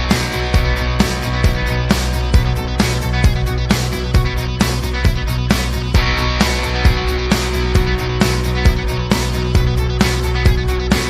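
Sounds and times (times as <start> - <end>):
rock music with distorted guitar: 0.0 - 11.0.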